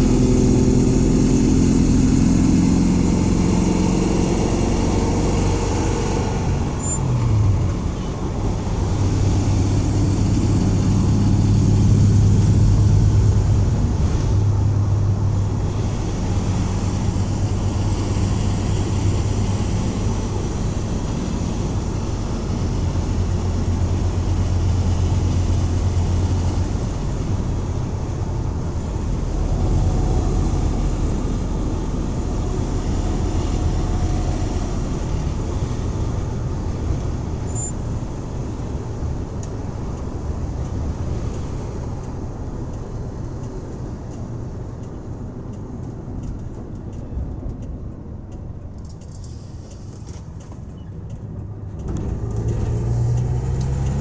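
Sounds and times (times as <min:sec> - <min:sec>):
road noise: 0:00.0 - 0:54.0
van engine running: 0:00.0 - 0:54.0.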